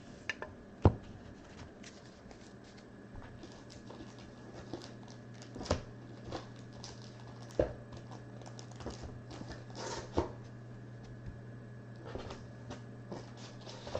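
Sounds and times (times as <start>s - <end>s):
steady electrical hum: 0.0s - 13.9s.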